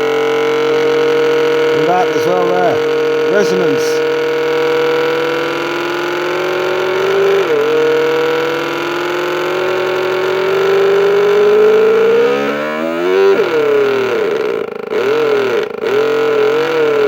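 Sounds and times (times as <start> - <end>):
buzzy engine-like electronic drone: 0.0 - 17.0.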